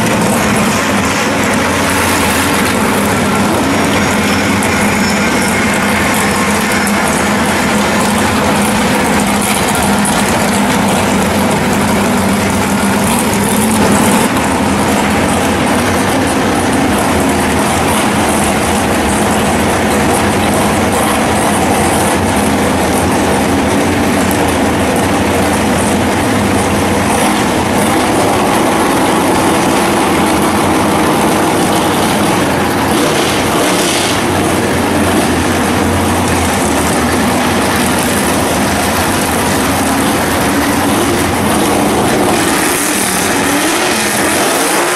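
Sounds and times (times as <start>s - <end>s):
car engine loud idle: 0.0s - 44.9s.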